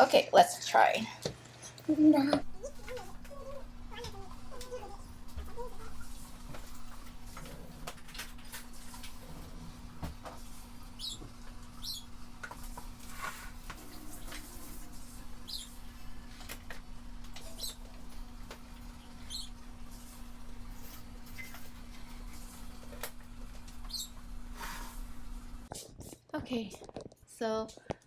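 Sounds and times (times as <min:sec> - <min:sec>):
steady low hum: 0:01.9 - 0:25.7.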